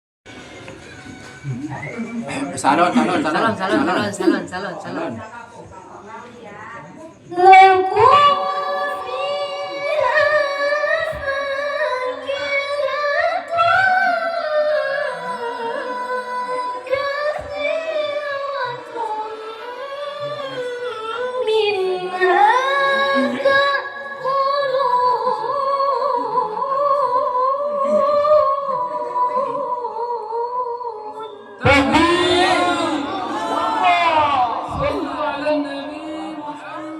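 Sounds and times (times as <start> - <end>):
woman chanting melodically: 2.7 - 5.1, 6.1 - 36.9.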